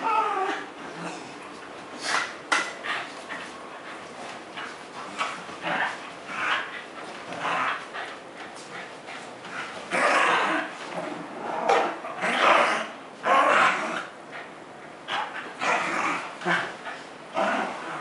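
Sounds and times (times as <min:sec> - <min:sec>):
dogs play-growling: 0:00.0 - 0:18.0.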